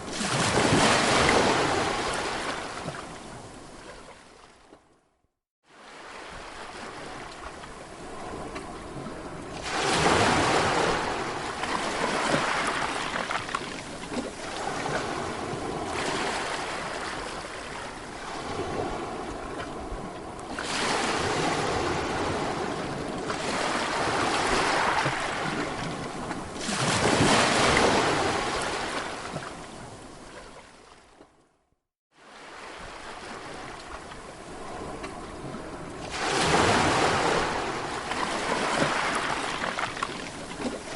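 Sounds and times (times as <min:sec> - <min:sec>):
sea waves breaking: 0:00.0 - 0:04.7, 0:05.6 - 0:31.2, 0:32.2 - 0:40.9.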